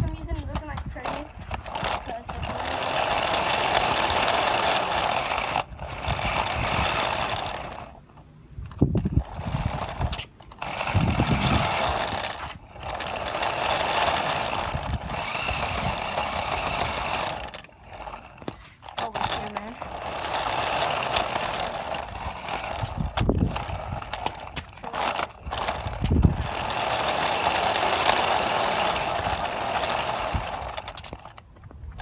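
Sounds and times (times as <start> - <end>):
electric toy car motor whirring: 0.1 - 31.4.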